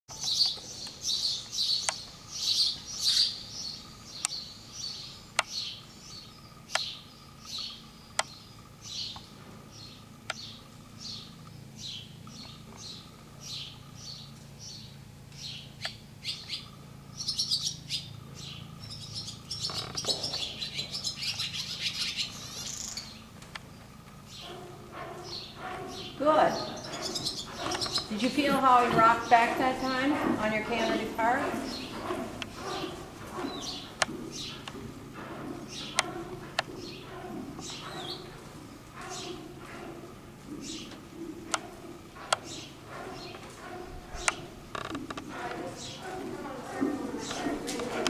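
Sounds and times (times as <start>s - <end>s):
faint steady hum: 0.1s - 48.0s
small birds chirping: 0.1s - 48.0s.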